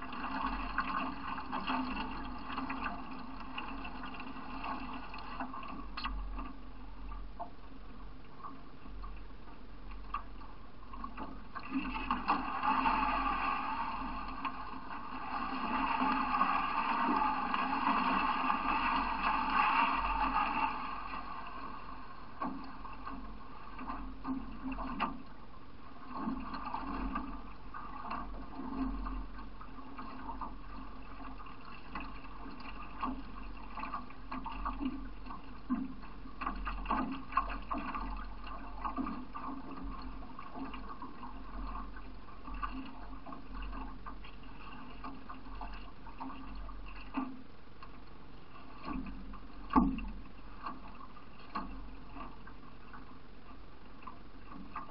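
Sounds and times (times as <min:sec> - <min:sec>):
paddle strokes splashing: 0:00.0 - 0:07.6, 0:10.0 - 0:54.9
water splashing along canoe hull: 0:00.0 - 0:54.9.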